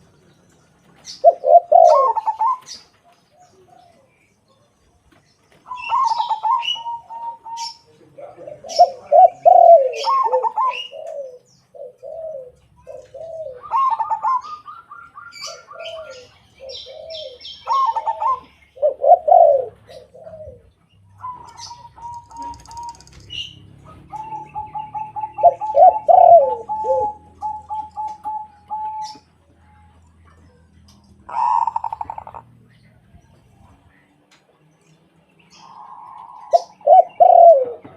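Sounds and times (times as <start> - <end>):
doves cooing: 0.0 - 34.1, 35.5 - 37.9
small birds chirping: 0.0 - 37.9.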